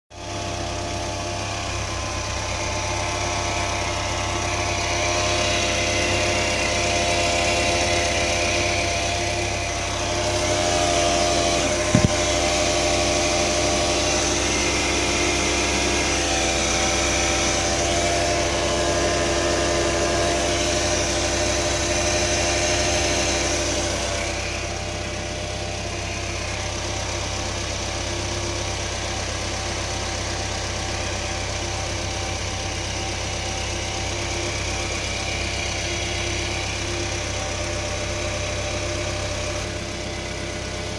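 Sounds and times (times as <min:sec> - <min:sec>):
car engine idling: 0:00.2 - 0:40.9.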